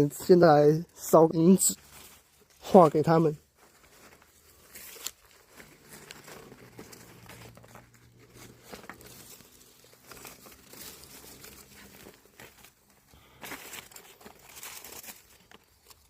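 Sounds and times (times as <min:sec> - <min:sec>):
paper crinkling and rustling: 0:00.0 - 0:16.0
small crackles: 0:00.0 - 0:16.0.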